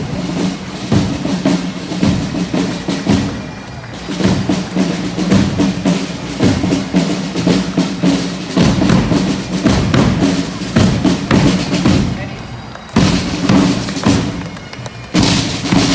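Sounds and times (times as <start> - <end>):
marching snare and bass drums: 0.0 - 15.9.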